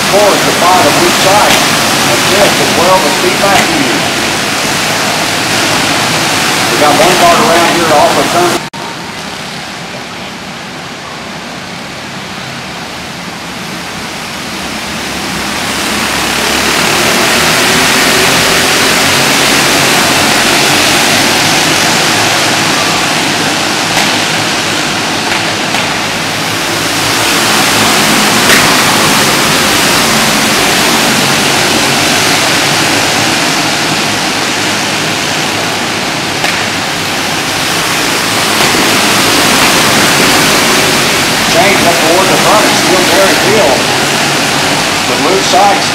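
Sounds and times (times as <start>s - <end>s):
racing kart engines: 0.0s - 45.9s.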